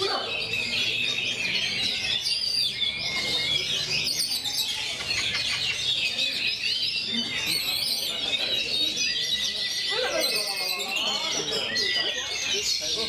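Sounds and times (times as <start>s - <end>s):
songbirds whistling: 0.0s - 13.0s.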